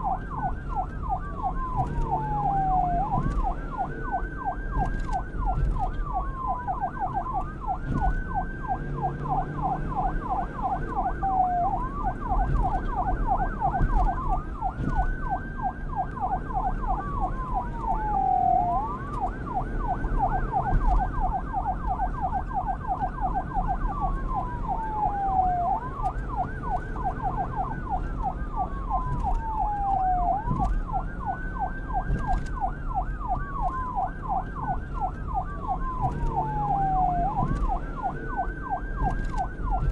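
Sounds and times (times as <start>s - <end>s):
police siren wail: 0.0s - 39.9s
police siren yelp: 0.0s - 39.9s
wind and traffic rumble: 0.0s - 39.9s.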